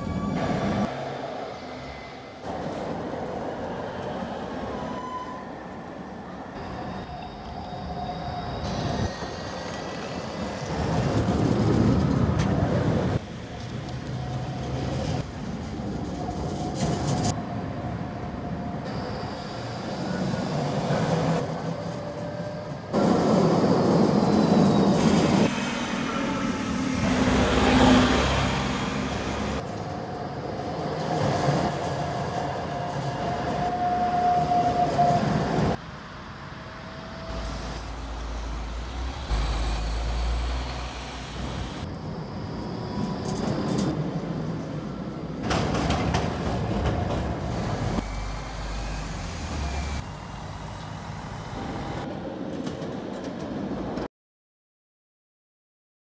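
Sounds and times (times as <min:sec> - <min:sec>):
tram wheels rumbling on rails: 0:05.7 - 0:54.1.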